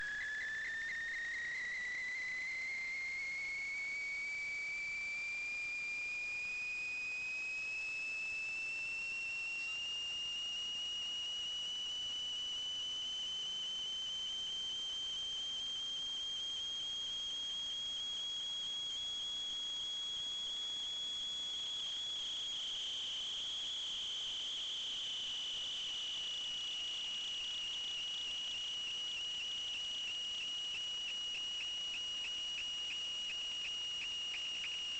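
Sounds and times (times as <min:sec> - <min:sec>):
high-pitched whine rising in pitch: 0:00.0 - 0:34.9.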